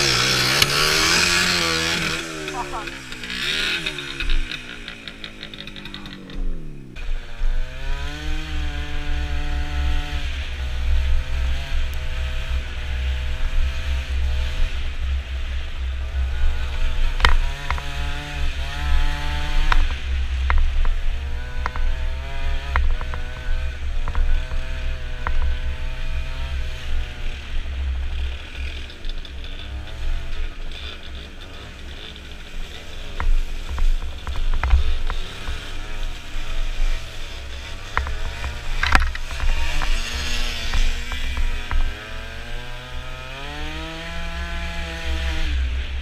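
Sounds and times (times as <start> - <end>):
scooter engine buzzing: 0.0 - 46.0.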